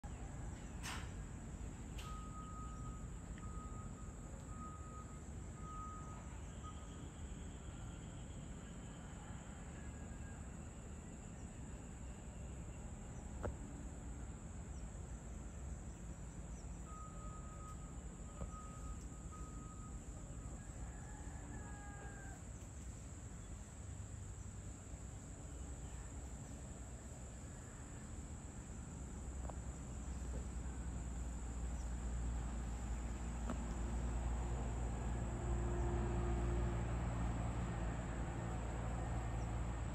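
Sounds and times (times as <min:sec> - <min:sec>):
crickets droning: 0:00.0 - 0:39.9.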